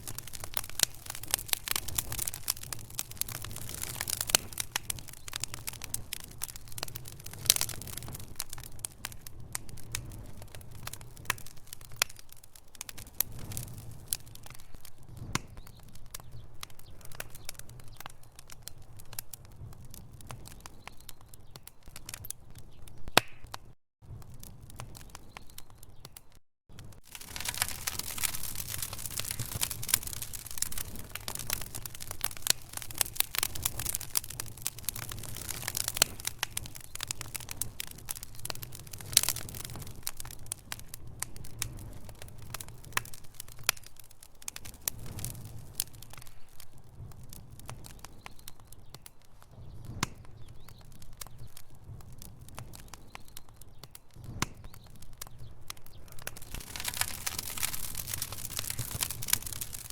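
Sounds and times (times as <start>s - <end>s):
fire low rumble: 0.0s - 59.9s
logs crackling and popping: 0.0s - 59.9s.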